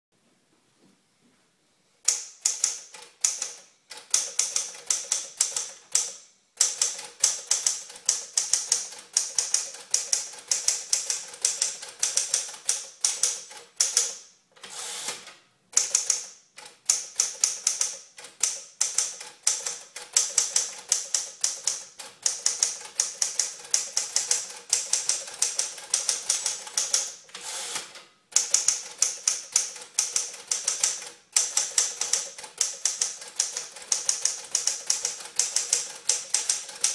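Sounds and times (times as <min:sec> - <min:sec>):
typewriter key strikes: 0:02.1 - 0:14.2, 0:15.8 - 0:27.2, 0:28.4 - 0:36.9.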